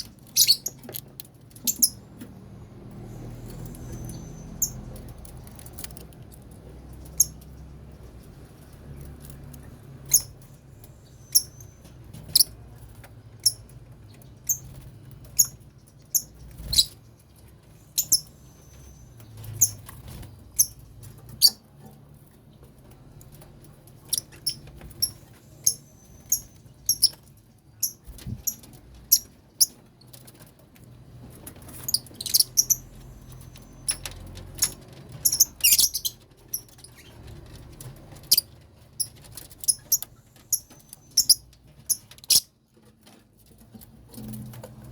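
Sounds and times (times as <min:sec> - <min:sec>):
lovebirds chirping: 0:00.0 - 0:02.2, 0:02.8 - 0:06.2, 0:06.8 - 0:13.6, 0:14.4 - 0:21.6, 0:23.9 - 0:29.8, 0:31.6 - 0:42.5.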